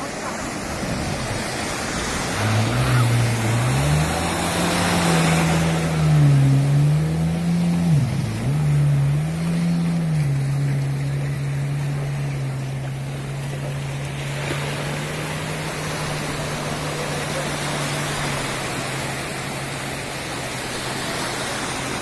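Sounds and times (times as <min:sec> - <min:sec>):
jet ski engine revving: 0:00.0 - 0:22.0
waves washing on shore: 0:00.0 - 0:22.0.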